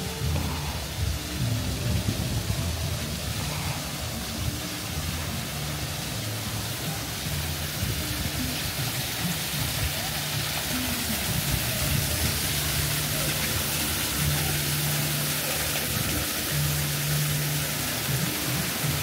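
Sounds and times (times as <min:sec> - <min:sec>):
indistinct voices: 0:00.0 - 0:19.0
steady rushing noise: 0:00.0 - 0:19.0.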